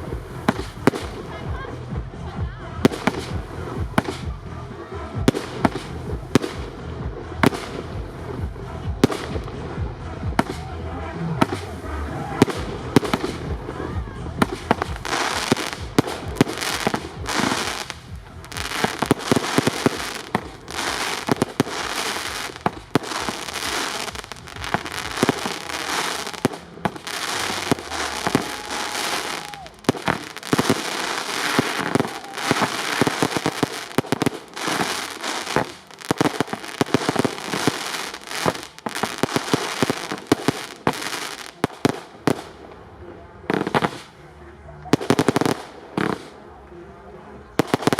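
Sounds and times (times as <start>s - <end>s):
fireworks bangs and crackling: 0.0s - 44.3s, 44.9s - 47.9s.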